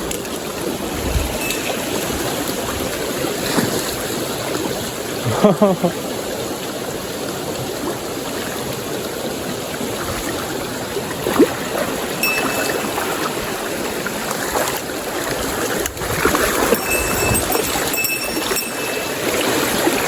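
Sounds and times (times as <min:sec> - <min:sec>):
stream water running over rocks: 0:00.0 - 0:20.0.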